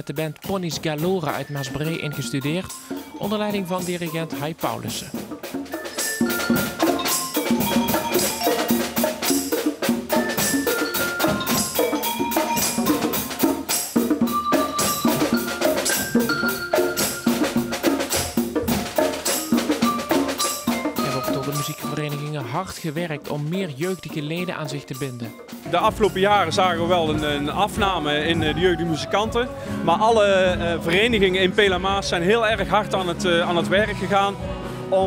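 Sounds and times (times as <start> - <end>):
mallet instrument notes: 0.0 - 31.3
percussion ensemble drumming: 0.0 - 34.2.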